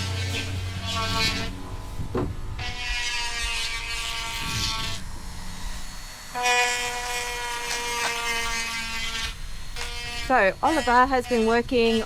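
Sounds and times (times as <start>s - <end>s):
electric power tool motor whining: 0.0s - 12.0s.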